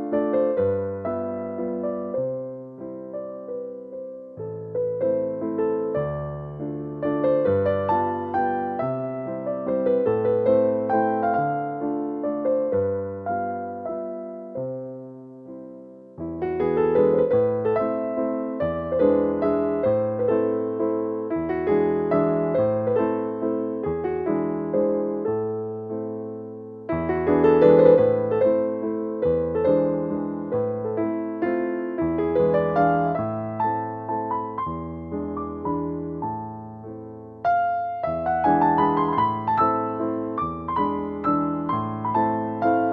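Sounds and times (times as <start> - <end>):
gentle electric piano tune: 0.0 - 42.9.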